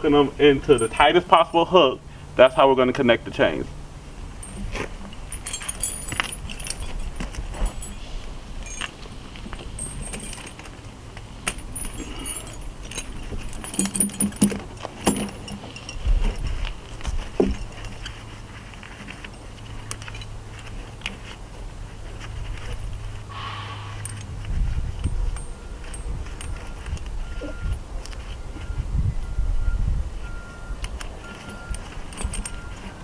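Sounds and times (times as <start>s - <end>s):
snow chains clinking and jangling: 0.0s - 3.6s, 4.2s - 28.8s, 30.2s - 33.0s.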